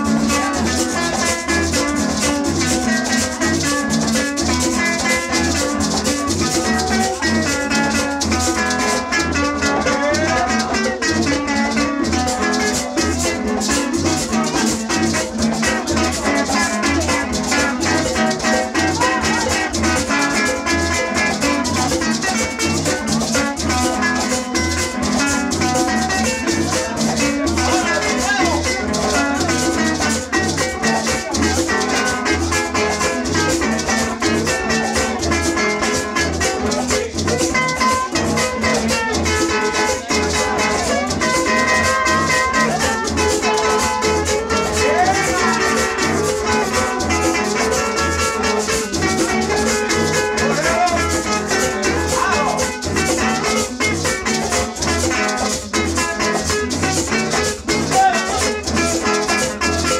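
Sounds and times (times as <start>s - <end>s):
maraca shaking: 0.0s - 59.9s
string instrument strummed: 0.0s - 59.9s.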